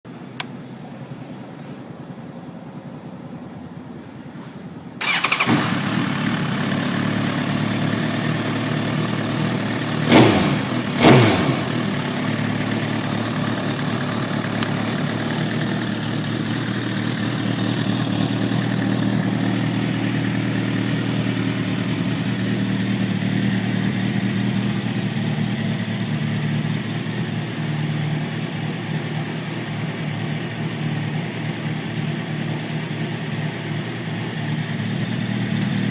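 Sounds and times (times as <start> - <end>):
motorcycle engine starting and idling: 0.1 - 35.9
motorcycle engine revving: 5.0 - 35.9.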